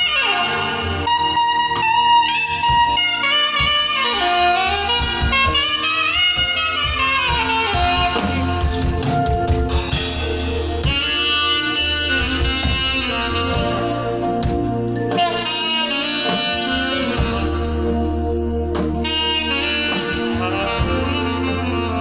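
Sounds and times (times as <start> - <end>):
bass line: 0.0 - 22.0
saxophone playing slow melody: 0.0 - 22.0.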